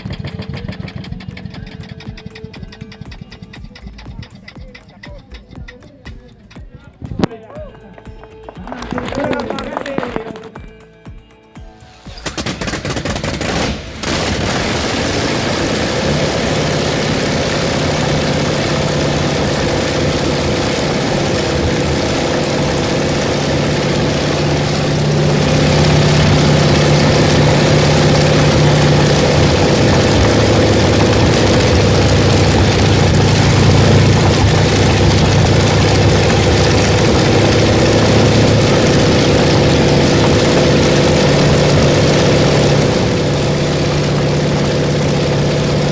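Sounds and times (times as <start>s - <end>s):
large engine running: 0.0s - 5.7s, 8.5s - 10.5s, 12.1s - 45.9s.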